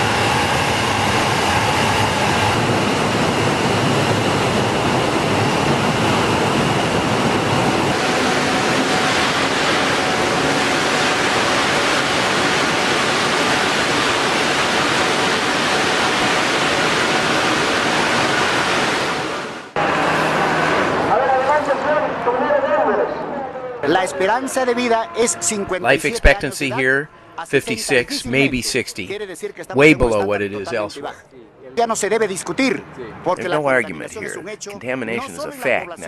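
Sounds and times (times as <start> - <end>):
industrial rushing din: 0.0 - 31.2.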